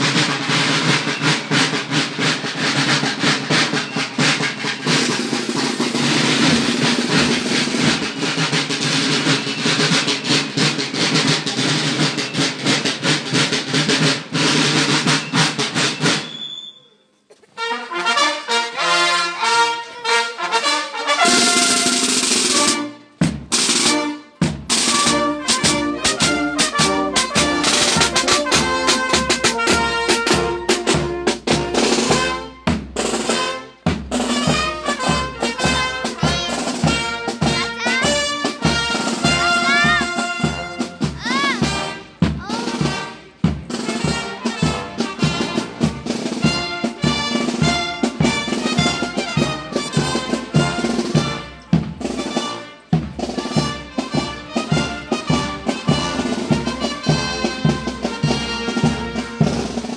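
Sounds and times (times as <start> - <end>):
brass band playing march: 0.0 - 16.5, 17.5 - 59.9
marching snare drums: 0.0 - 16.6, 17.6 - 59.9.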